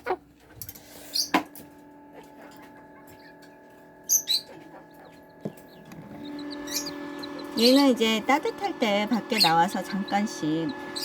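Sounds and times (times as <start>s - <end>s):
chick peeping: 0.0s - 0.3s, 2.1s - 11.0s
steady hum: 0.7s - 11.0s.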